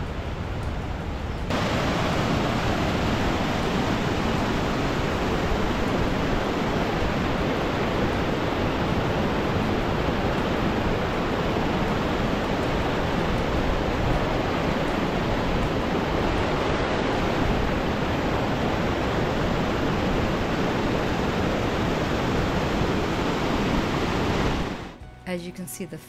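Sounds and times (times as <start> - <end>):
waterfall rushing: 1.4 - 25.0.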